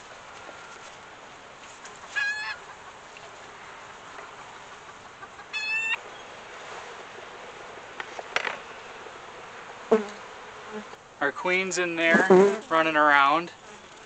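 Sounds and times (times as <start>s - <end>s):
honeybees humming: 0.0s - 14.0s.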